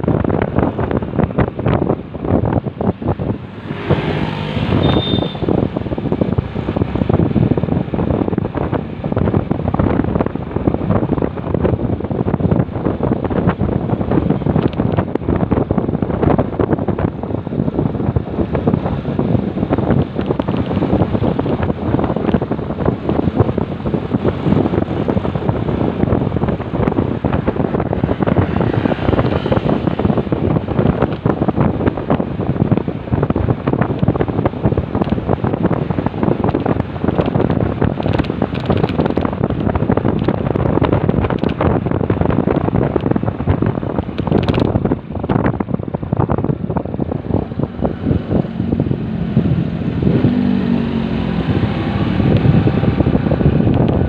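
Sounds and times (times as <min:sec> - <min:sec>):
motorcycle and road noise: 0:00.0 - 0:54.0
wind buffeting microphone: 0:00.0 - 0:54.0.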